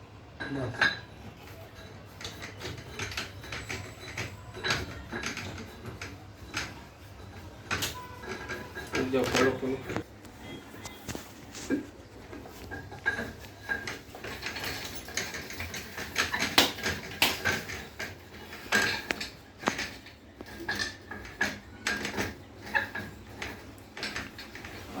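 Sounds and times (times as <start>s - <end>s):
metal clanks and knocks: 0.4s - 25.0s.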